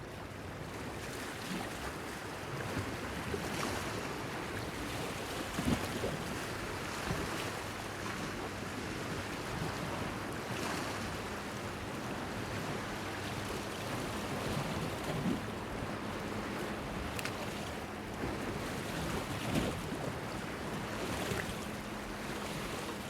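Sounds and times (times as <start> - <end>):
waves lapping against a pier: 0.0 - 23.0.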